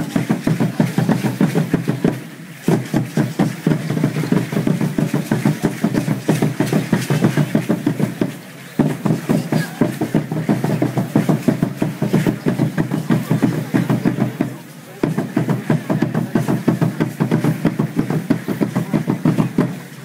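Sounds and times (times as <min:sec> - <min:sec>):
drum beating fast rhythm: 0:00.0 - 0:20.0.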